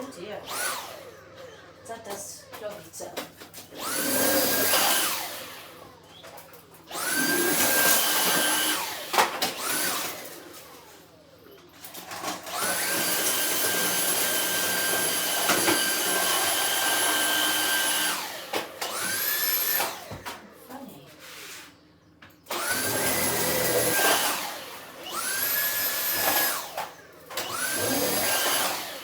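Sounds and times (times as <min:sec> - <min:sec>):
stick vacuum motor whining: 0:00.0 - 0:20.7, 0:22.0 - 0:29.0.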